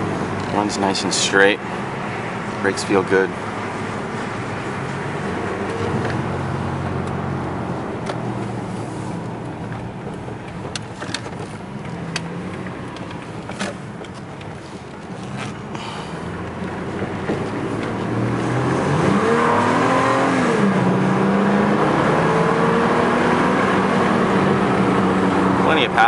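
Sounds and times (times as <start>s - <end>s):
car engine hum: 0.0s - 26.0s
road noise: 0.0s - 26.0s.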